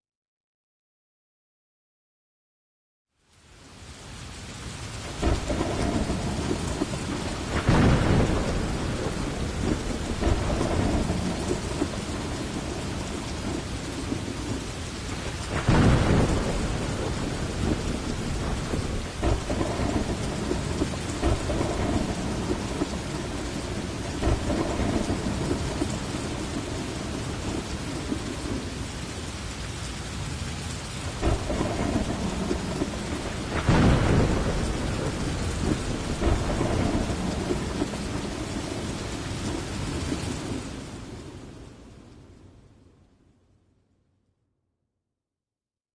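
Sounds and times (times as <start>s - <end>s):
heavy rain: 3.1s - 43.2s
thunder rumbling: 5.0s - 42.4s.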